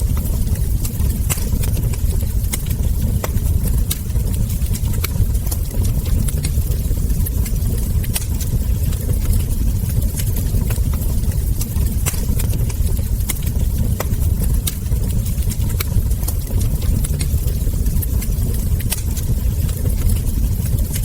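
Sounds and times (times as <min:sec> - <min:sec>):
steady low rumble: 0:00.0 - 0:21.0
wood fire crackling: 0:00.0 - 0:21.0.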